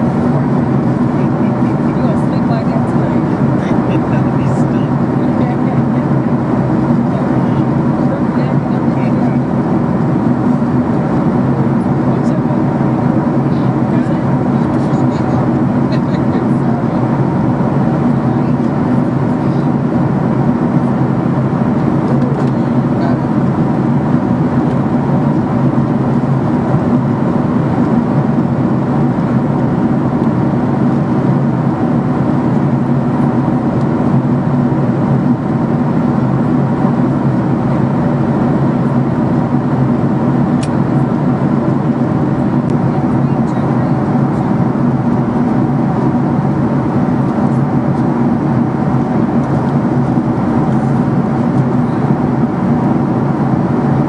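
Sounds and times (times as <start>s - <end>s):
jet airliner cabin noise: 0.0s - 54.0s.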